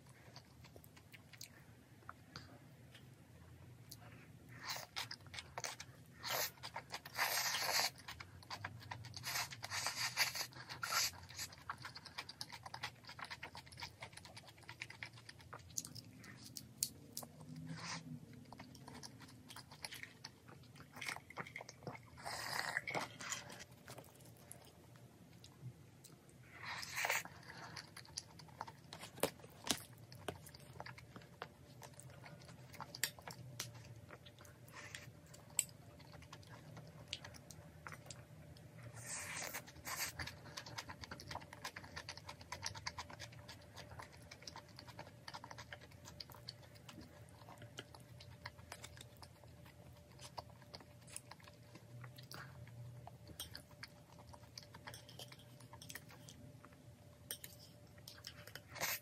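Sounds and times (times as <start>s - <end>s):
crunchy chewing: 3.9s - 59.0s.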